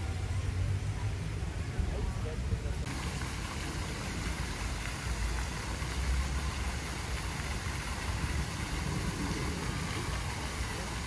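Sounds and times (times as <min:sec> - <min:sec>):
fountain water spray hissing: 0:00.0 - 0:11.0.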